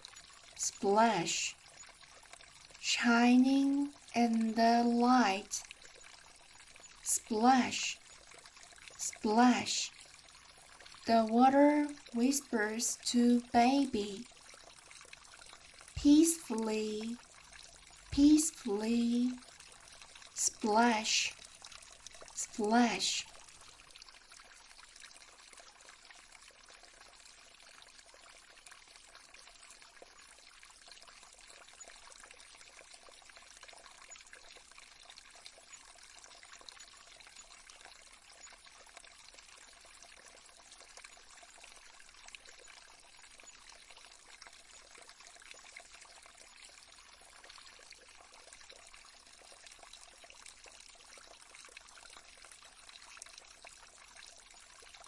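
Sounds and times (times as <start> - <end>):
small stream trickling: 0.0 - 55.0.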